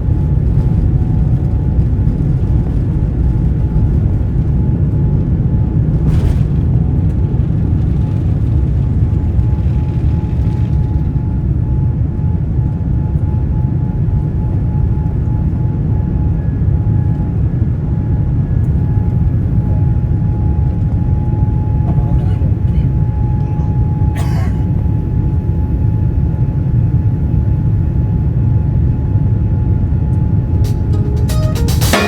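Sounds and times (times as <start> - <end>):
jet cabin low rumble: 0.0 - 26.7, 30.2 - 32.0
faint constant whine: 0.0 - 29.3.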